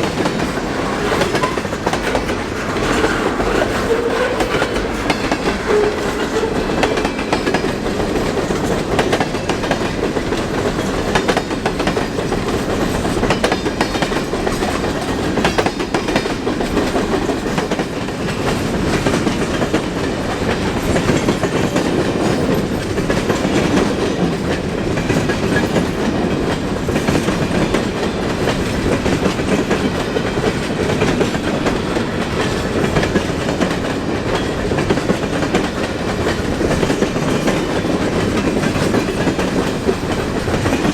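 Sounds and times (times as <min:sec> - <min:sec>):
train wheels clickety-clack: 0:00.0 - 0:40.9.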